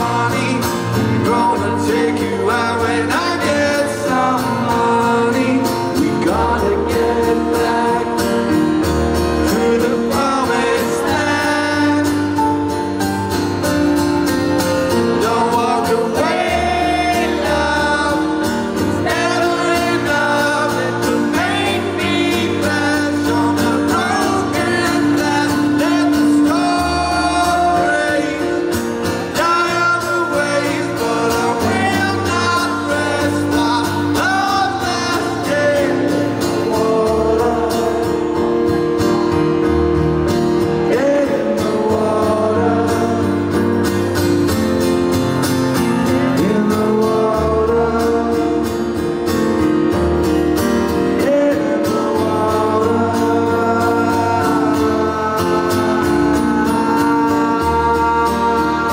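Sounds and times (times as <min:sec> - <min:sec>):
man singing: 0:00.0 - 0:44.6, 0:45.7 - 0:58.9
acoustic guitar: 0:00.0 - 0:58.9.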